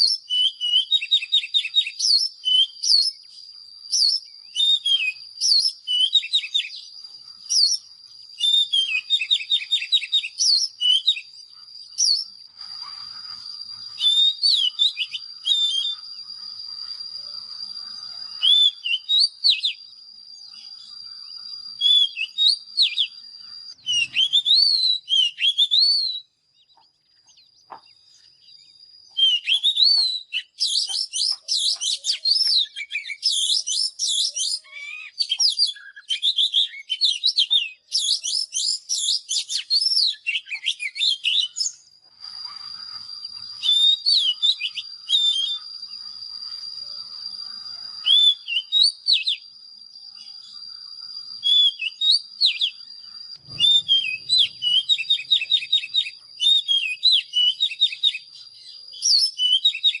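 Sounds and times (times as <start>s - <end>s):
bird singing: 0.0s - 60.0s
steady high whistle-like tone: 0.0s - 60.0s.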